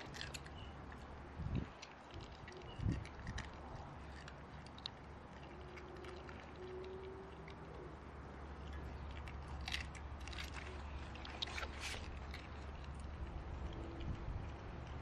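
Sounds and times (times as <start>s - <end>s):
dog chewing food: 0.0s - 15.0s.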